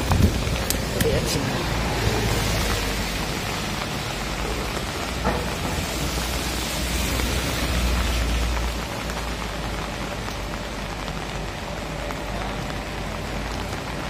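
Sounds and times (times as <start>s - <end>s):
light rain on pavement: 0.0s - 14.0s
rain on an umbrella: 0.0s - 14.0s.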